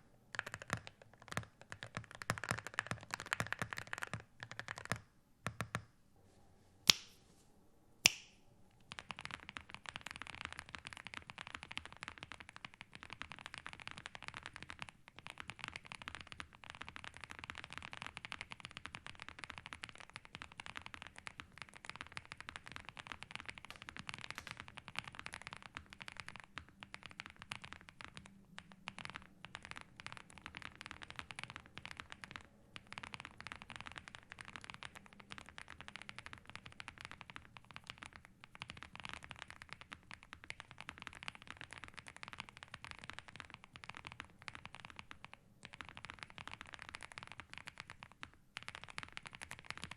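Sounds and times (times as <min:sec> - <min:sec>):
fast typing on mechanical keyboard: 0:00.3 - 0:05.9, 0:08.9 - 0:49.9.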